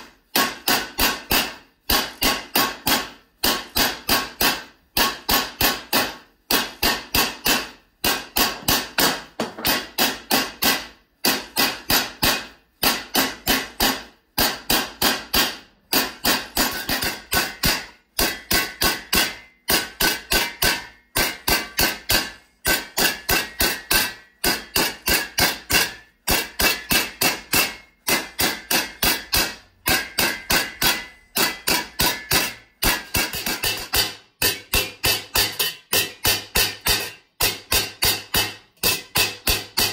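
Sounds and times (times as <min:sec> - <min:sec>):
mallet beating sheet copper: 0:00.0 - 0:39.9.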